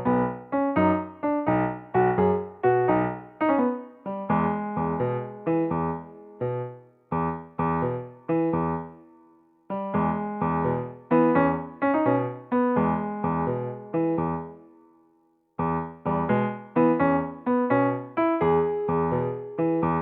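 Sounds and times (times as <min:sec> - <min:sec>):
light piano-like keyboard tune: 0:00.0 - 0:20.0.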